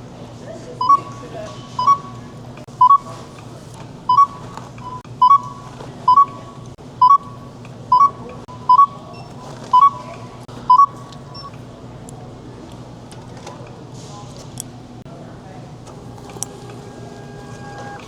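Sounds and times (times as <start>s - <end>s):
low store hum: 0.0s - 18.0s.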